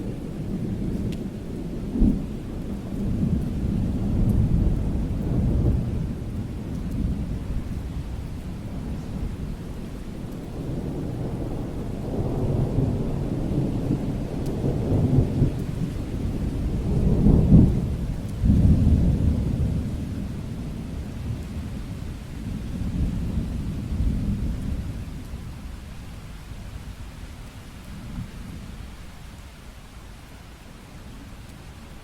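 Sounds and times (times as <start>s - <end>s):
thunder rumbling: 0.0s - 29.2s
steady rain: 0.0s - 32.0s.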